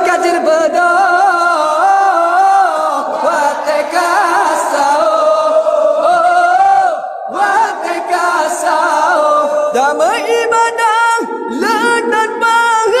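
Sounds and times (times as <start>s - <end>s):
voices chanting a song: 0.0s - 13.0s.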